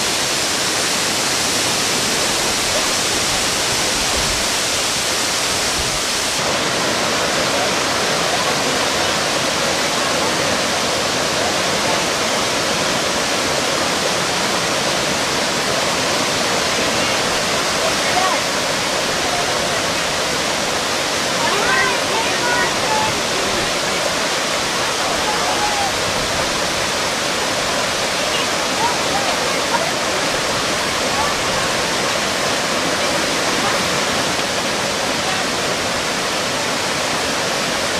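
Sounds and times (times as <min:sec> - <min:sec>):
waterfall roar: 0:00.0 - 0:37.9.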